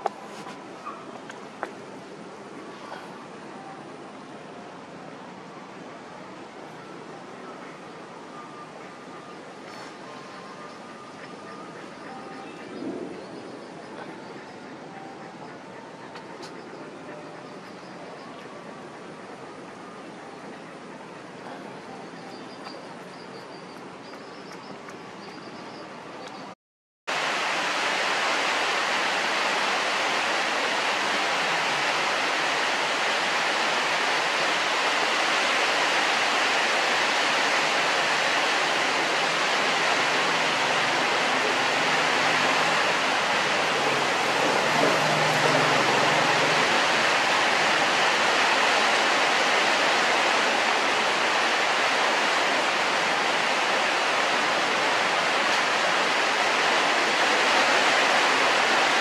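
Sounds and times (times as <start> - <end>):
rushing hiss of noise: 0.0 - 25.1, 27.1 - 59.0.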